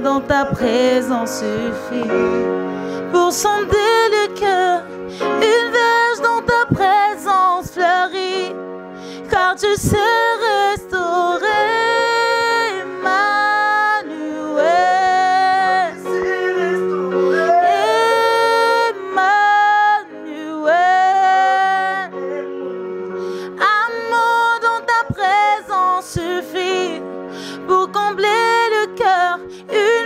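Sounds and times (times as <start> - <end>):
woman singing gospel song: 0.0 - 16.2, 17.4 - 22.2, 23.3 - 30.0
electronic keyboard chords: 0.0 - 30.0.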